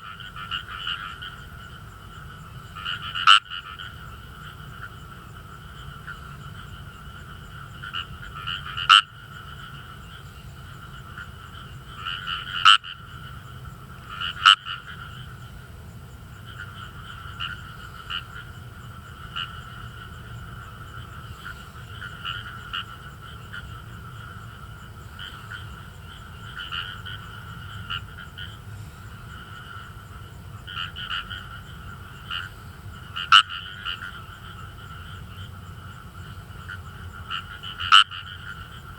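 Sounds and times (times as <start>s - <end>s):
chorus of frogs croaking: 0.0s - 38.9s
loud single frog calls: 0.0s - 38.9s.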